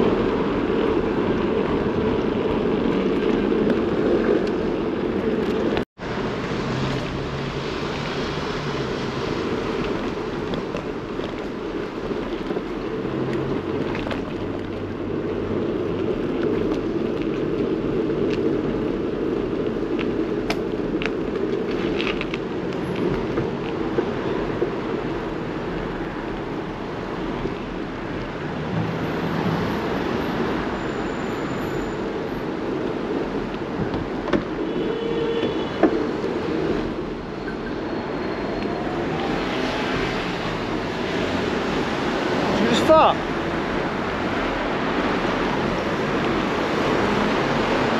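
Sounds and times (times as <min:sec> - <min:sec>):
road and wind rumble: 0:00.0 - 0:47.9
traffic passing: 0:00.0 - 0:47.9.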